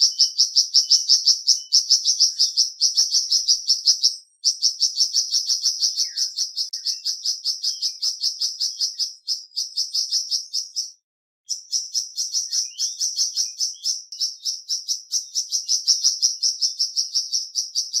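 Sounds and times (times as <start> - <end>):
bird chirping rapidly: 0.0 - 18.0.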